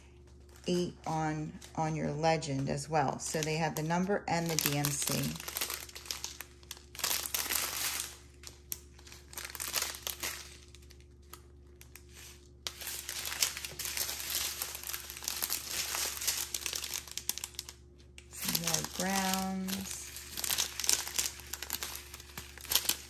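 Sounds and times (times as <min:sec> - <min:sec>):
plastic bags crinkling: 0:00.0 - 0:23.0.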